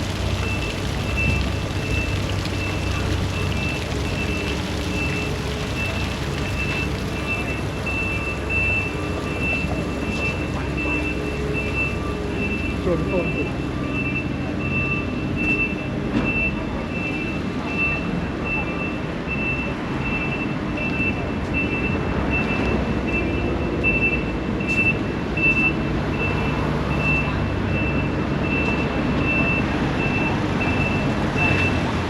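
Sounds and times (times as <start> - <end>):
street and vehicle noise: 0.0 - 32.0.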